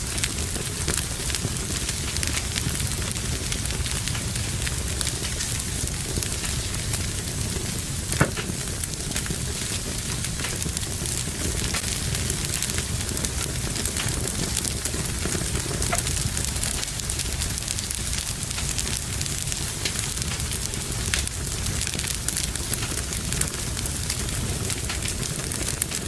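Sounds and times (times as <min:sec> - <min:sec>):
fire crackling in fireplace: 0:00.0 - 0:26.0
fire pop: 0:00.0 - 0:26.0.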